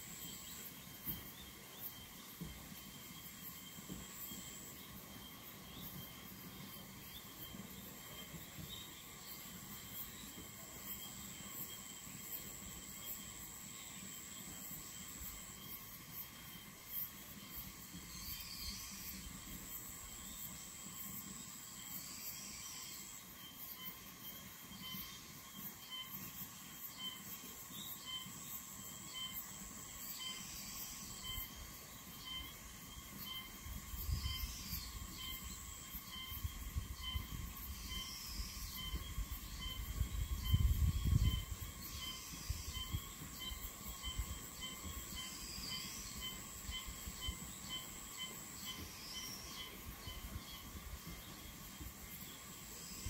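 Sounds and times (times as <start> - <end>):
insect chirping in pulse: 0.0 - 53.0
insects trilling in chorus: 0.0 - 53.0.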